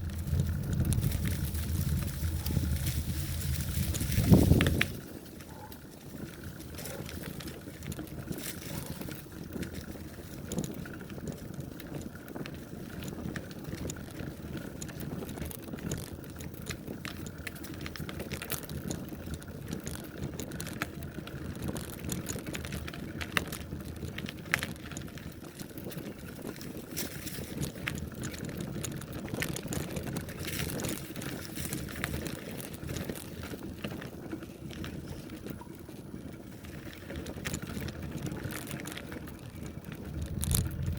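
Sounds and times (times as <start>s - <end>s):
bicycle clicks and rattles: 0.0s - 40.9s
bicycle tyres rumbling: 0.0s - 40.9s.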